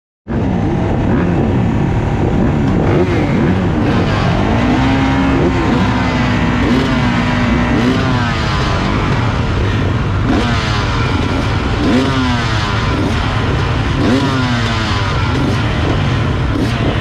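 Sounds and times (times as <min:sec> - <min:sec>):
engine at steady high revs: 0:00.3 - 0:17.0
motocross bikes revving: 0:00.3 - 0:17.0.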